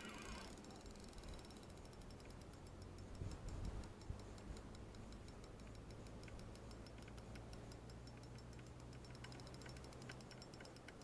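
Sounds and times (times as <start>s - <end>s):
fishing reel ticking: 0.0s - 11.0s.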